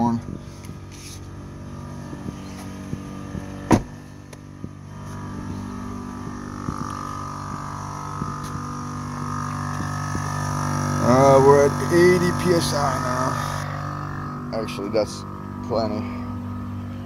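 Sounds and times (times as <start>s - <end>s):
air compressor running: 0.0s - 17.0s
high whine: 0.0s - 17.0s.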